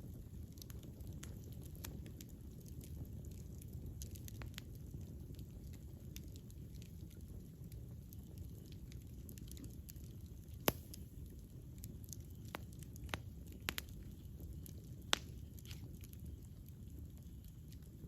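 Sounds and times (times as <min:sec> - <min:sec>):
low campfire rumble: 0:00.0 - 0:18.0
wood popping and crackling: 0:00.5 - 0:18.0.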